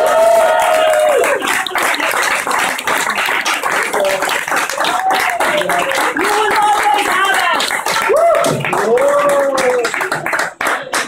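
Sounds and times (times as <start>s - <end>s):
people clapping and applauding: 0.0s - 11.0s.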